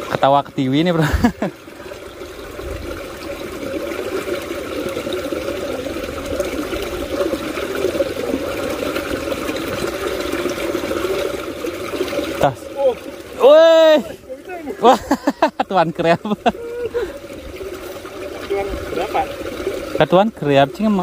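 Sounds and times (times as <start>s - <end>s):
water trickling into ditch: 0.0s - 21.0s.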